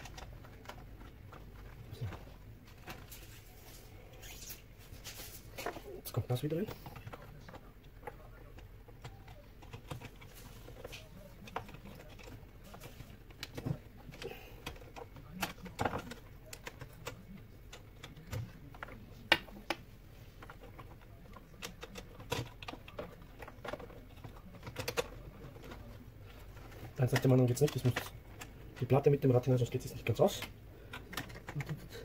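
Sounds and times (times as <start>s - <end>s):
plastic parts clicking: 5.3s - 32.0s.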